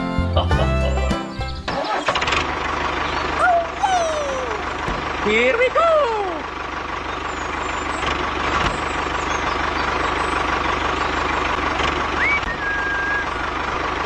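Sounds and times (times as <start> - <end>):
tractor motor running: 1.3 - 14.0.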